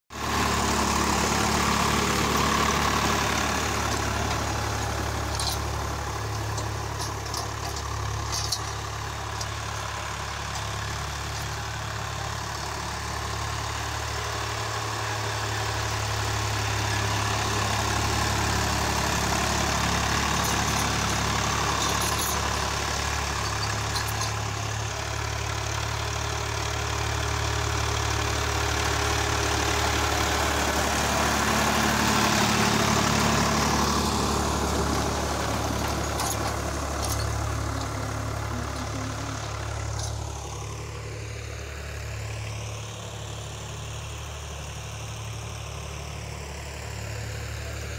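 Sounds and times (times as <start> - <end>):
tractor diesel engine running: 0.1 - 47.9.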